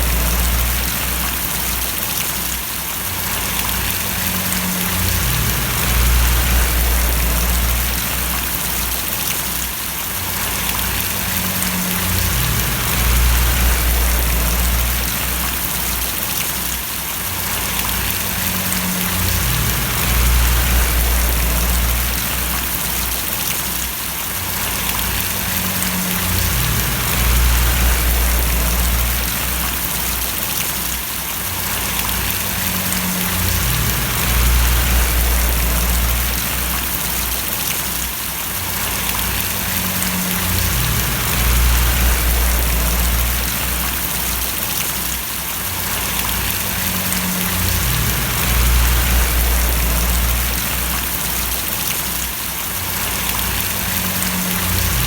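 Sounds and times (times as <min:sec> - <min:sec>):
low hum: 0:00.0 - 0:01.8, 0:03.3 - 0:09.3, 0:10.4 - 0:16.3, 0:17.6 - 0:23.5, 0:24.8 - 0:30.5, 0:31.9 - 0:37.7, 0:38.9 - 0:44.8, 0:46.0 - 0:52.0, 0:53.2 - 0:55.0
rain falling and splashing: 0:00.0 - 0:55.0.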